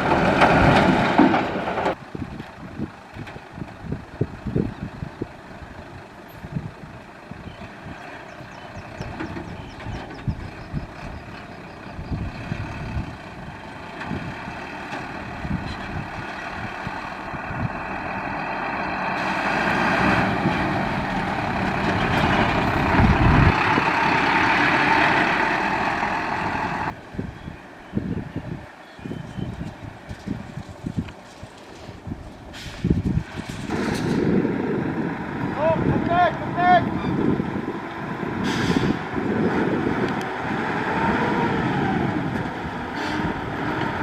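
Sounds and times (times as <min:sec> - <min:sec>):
heavy truck engine running: 0:00.0 - 0:27.2, 0:29.8 - 0:44.0.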